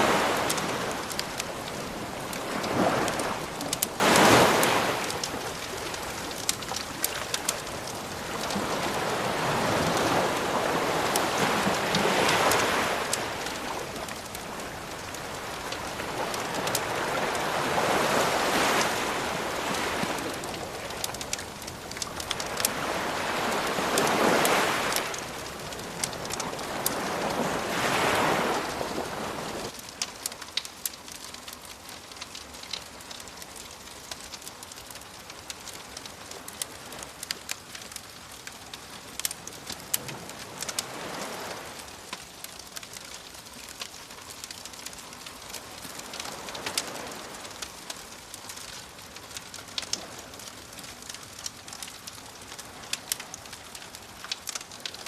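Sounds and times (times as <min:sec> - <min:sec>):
campfire crackling and popping: 0:00.0 - 0:55.0
ocean waves washing ashore: 0:00.0 - 0:55.0.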